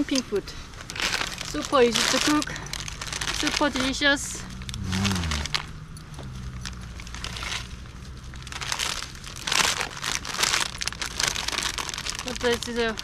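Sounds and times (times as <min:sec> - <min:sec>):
plastic packet crinkling: 0:00.0 - 0:05.7, 0:06.4 - 0:13.0.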